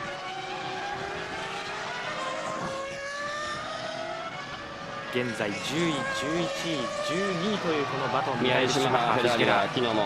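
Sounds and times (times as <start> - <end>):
racing car engines at high revs: 0.0 - 10.0.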